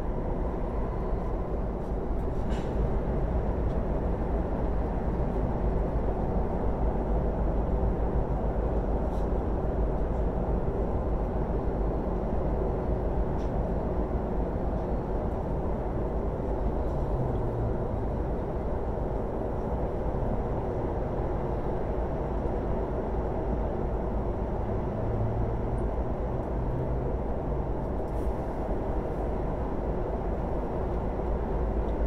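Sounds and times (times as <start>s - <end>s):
train rumble from inside carriage: 0.0s - 32.0s.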